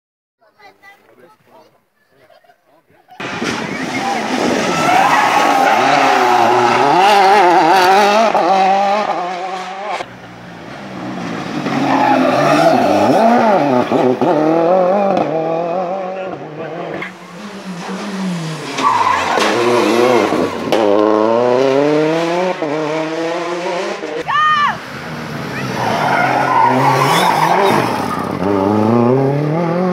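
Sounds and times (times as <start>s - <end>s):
rally car engines accelerating: 3.2s - 29.9s.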